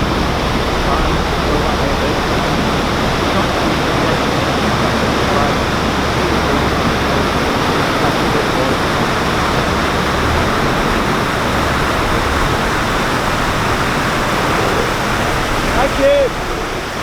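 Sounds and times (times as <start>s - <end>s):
low rumble: 0.0s - 17.0s
water rushing through lock paddles: 0.0s - 17.0s.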